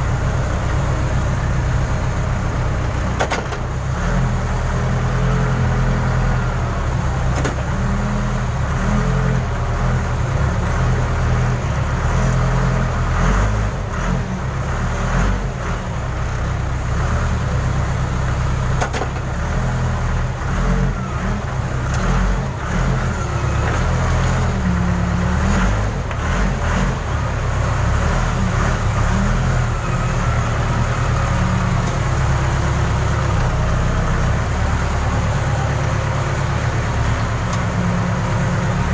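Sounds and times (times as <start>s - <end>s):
diesel engine under load: 0.0s - 38.9s.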